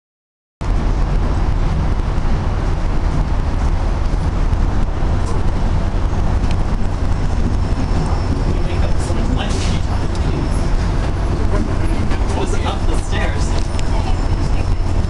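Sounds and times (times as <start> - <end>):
city street traffic din: 0.6 - 15.0.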